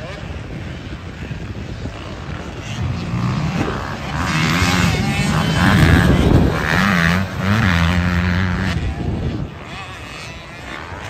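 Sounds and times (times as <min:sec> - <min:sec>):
dirt bike engine revving: 0:01.1 - 0:11.0.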